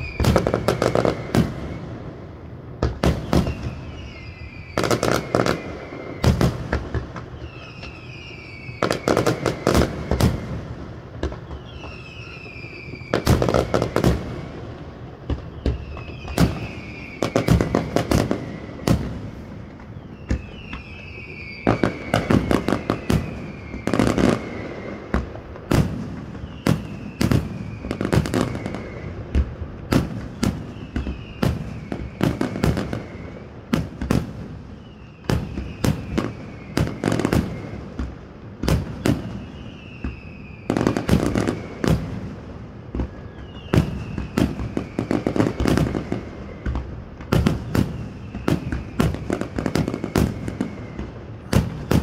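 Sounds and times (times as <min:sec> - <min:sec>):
fireworks whistles sliding down: 0:00.0 - 0:14.6, 0:15.3 - 0:52.0
fireworks bangs and crackles: 0:00.0 - 0:52.0.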